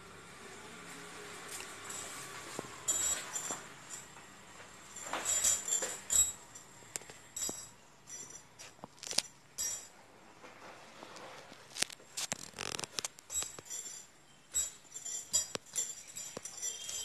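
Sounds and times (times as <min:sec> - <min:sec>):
light clinks and rustles: 0:01.4 - 0:17.0.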